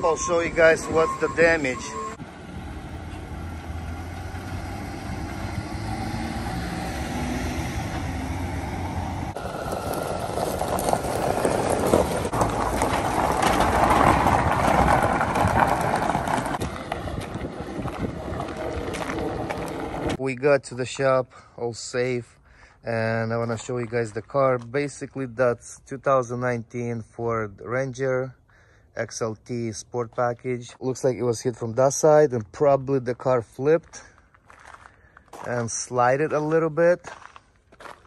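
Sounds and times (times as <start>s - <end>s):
tyres crunching over gravel: 0.0s - 21.1s, 23.0s - 25.4s, 30.0s - 38.0s
engine and road hum: 0.0s - 38.0s.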